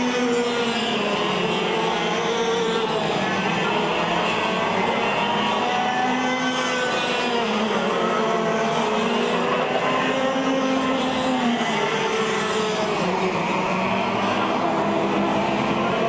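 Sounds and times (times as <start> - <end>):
racing kart engines: 0.0 - 16.0.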